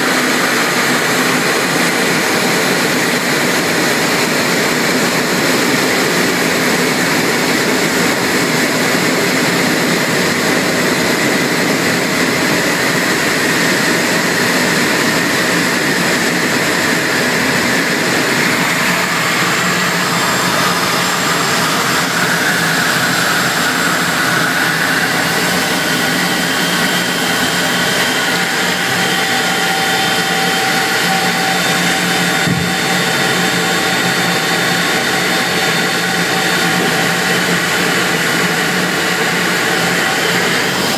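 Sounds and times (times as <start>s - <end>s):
jet engine and airflow rush: 0.0s - 40.9s.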